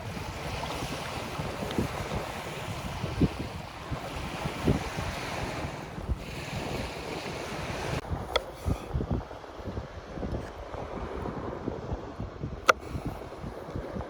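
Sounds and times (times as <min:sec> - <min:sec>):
sea surf: 0:00.0 - 0:12.1
wind buffeting microphone: 0:00.0 - 0:14.0.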